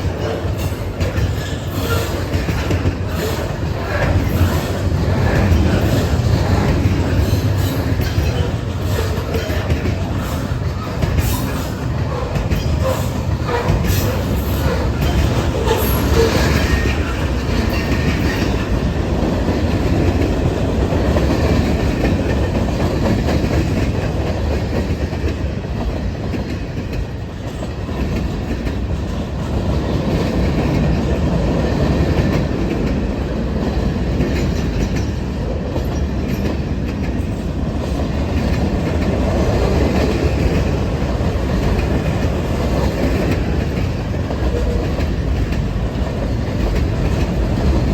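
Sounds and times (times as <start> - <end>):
freight train wheels clattering: 0.0 - 47.9.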